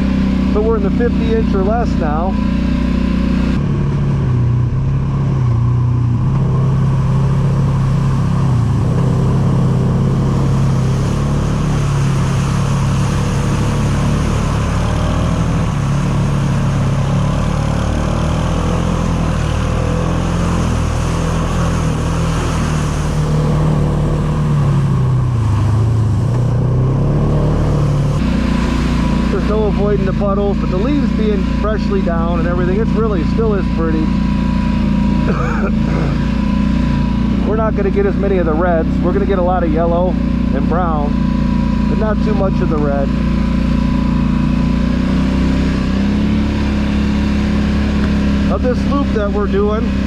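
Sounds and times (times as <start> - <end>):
atv engine running: 0.0 - 50.0.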